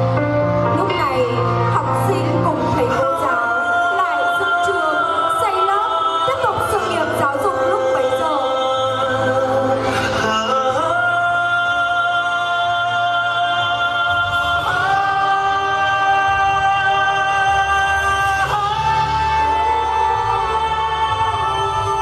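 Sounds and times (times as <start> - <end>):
music with long sung notes: 0.0 - 22.0.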